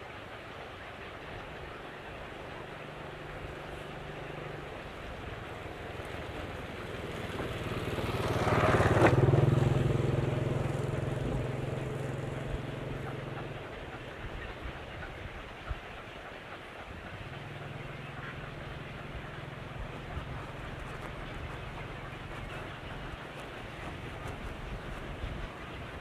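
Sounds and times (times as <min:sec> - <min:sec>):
vehicle engine passing by: 0:01.8 - 0:15.0, 0:17.1 - 0:26.0.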